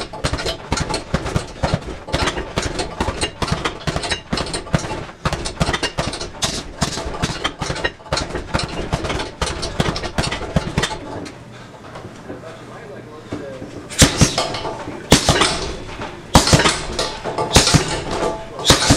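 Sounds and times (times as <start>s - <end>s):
punches hitting heavy bag: 0.0s - 11.0s, 13.9s - 18.9s.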